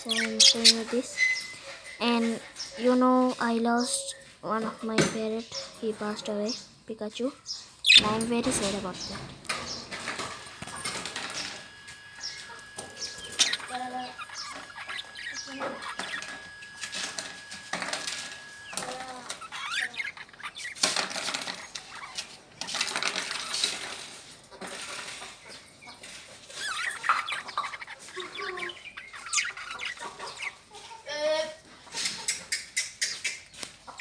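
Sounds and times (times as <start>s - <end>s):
wings fluttering: 0.0s - 3.8s, 7.7s - 30.8s, 31.9s - 34.0s
small birds chirping: 0.0s - 34.0s.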